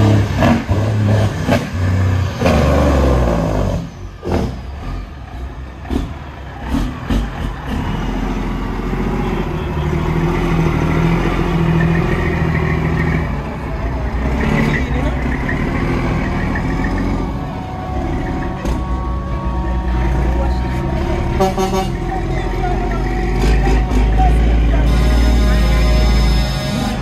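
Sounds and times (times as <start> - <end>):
diesel truck engine revving: 0.0 - 27.0.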